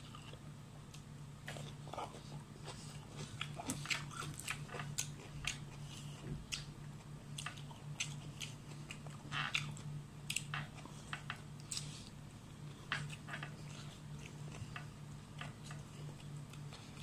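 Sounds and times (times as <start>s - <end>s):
low steady hum: 0.0s - 17.0s
person chewing and lip-smacking: 0.0s - 17.0s.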